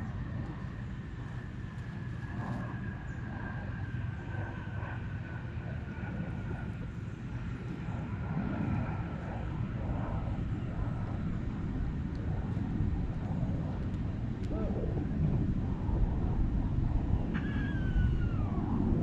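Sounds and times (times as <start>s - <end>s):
airplane engine drone: 0.0s - 19.0s.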